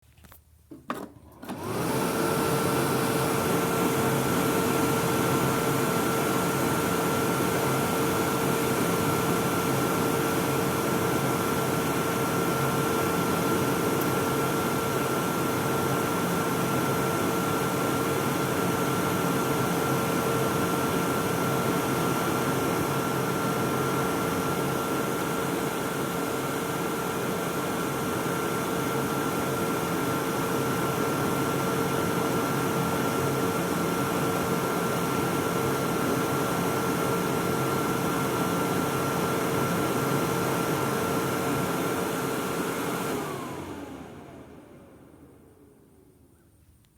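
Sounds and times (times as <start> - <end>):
electric hand dryer blowing: 1.4 - 45.8.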